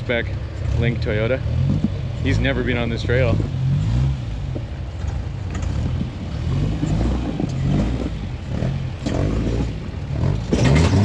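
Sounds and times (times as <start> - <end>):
off-road engine revving: 0.0 - 11.0.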